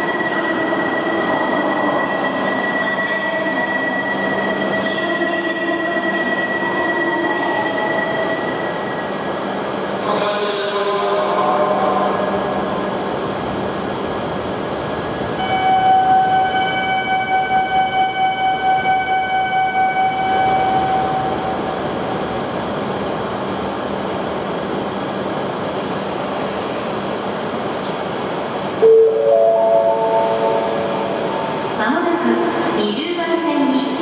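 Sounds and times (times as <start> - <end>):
high whine of steady tones: 0.0 - 34.0
train rushing along tracks: 0.0 - 34.0.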